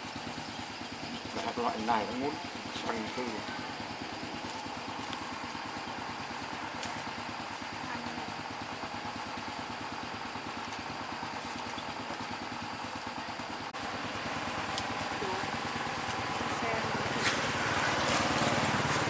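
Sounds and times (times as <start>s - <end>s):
motorbike engine idling: 0.0s - 19.0s.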